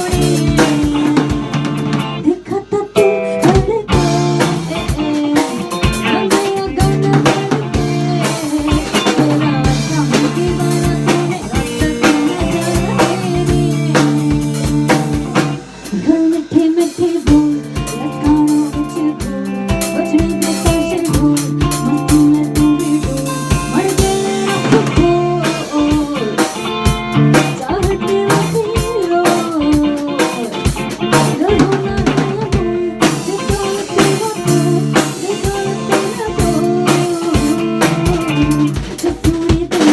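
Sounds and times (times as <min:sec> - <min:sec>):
drum rimshots: 0:00.0 - 0:02.3, 0:03.4 - 0:39.9
band playing instrumental: 0:00.0 - 0:39.9.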